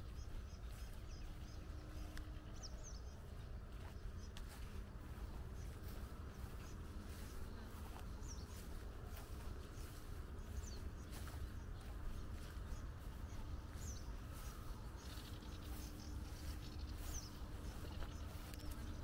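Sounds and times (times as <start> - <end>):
small birds chirping faintly: 0.0 - 19.0
wind rumble on microphone: 0.0 - 19.0.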